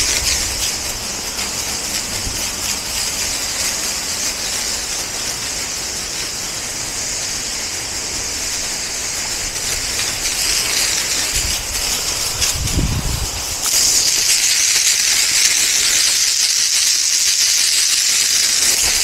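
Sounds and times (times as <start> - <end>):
water jet spraying concrete: 0.0 - 19.0.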